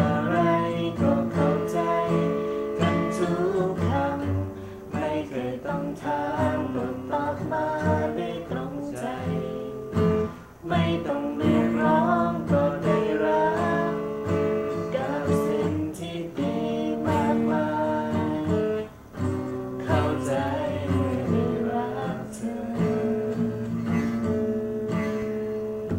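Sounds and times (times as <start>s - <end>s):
strummed acoustic guitar song: 0.0s - 25.9s.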